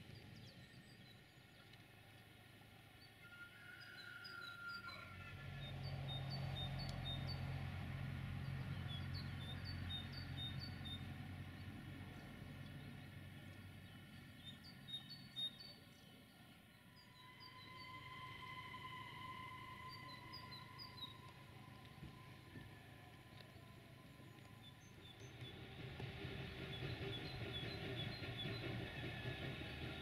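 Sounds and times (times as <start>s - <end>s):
rail vehicle engine rumble: 0.0s - 30.0s.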